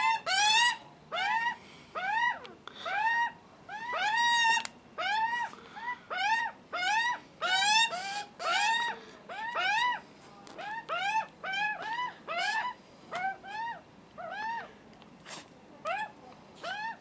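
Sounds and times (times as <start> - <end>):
young magpies begging calls: 0.0 - 10.0, 10.6 - 14.7.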